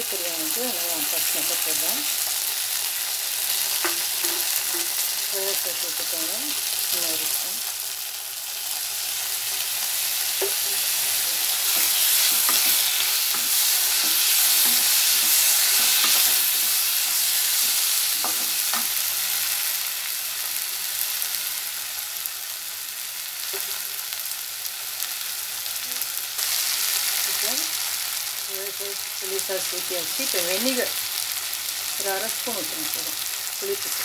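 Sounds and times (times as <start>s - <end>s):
food sizzling in a pan: 0.0s - 34.0s.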